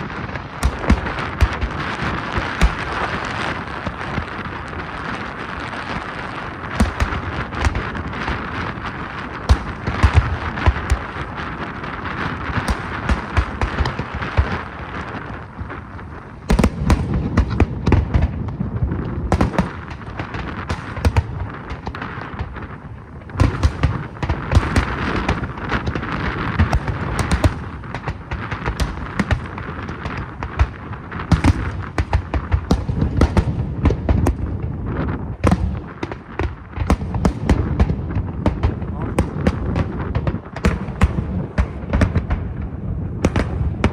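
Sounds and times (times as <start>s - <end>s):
fireworks bursting and crackling: 0.0s - 43.9s.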